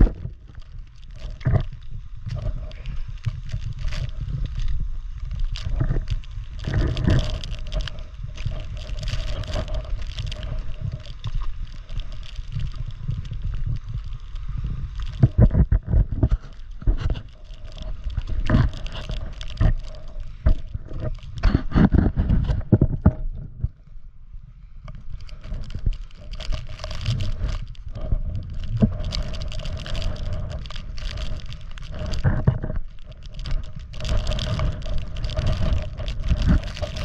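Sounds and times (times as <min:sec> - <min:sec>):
wind buffeting microphone: 0:00.0 - 0:23.8, 0:25.0 - 0:37.0.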